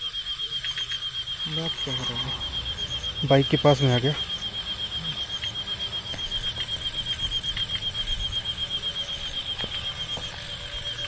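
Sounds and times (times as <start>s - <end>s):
high-pitched pulsing chirp: 0.0s - 11.0s.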